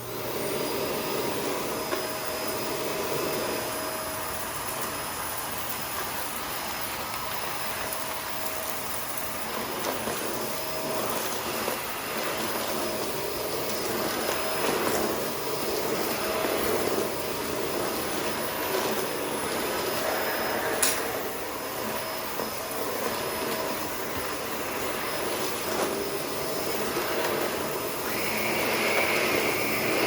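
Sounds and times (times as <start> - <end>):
high-pitched whine: 0.0 - 30.0
vacuum cleaner running: 0.0 - 30.0.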